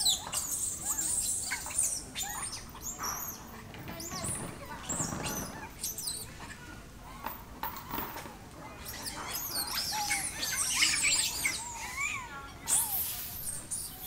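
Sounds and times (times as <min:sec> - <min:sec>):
young monkeys squealing and chirping: 0:00.0 - 0:06.3, 0:08.7 - 0:14.0.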